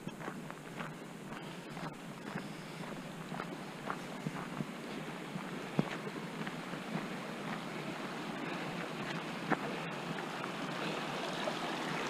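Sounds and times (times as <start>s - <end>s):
footsteps on rocky dirt trail: 0.0s - 11.5s
steady rushing noise: 0.0s - 12.0s.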